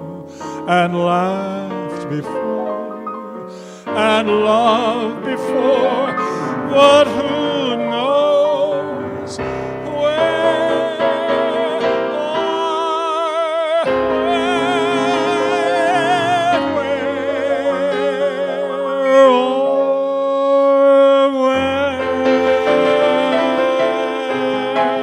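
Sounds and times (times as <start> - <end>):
person singing a ballad: 0.0 - 25.0
piano chords: 0.0 - 25.0.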